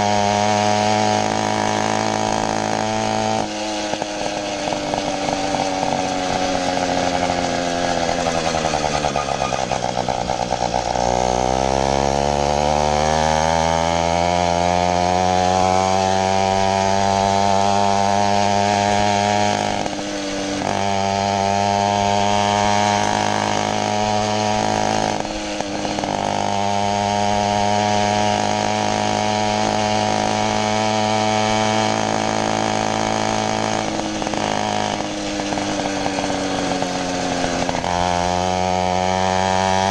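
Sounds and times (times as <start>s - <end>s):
two-stroke engine running: 0.0s - 39.9s.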